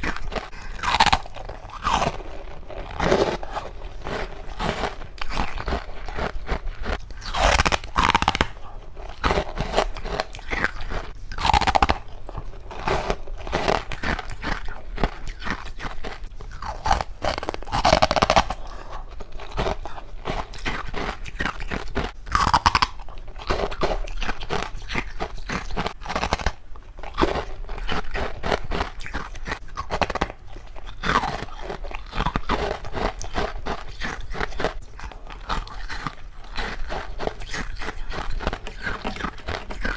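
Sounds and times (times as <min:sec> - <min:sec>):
person crunching frozen food: 0:00.0 - 0:39.9.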